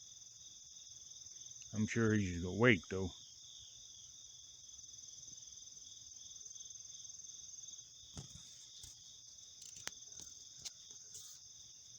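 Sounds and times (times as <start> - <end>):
crickets trilling: 0.0 - 11.9.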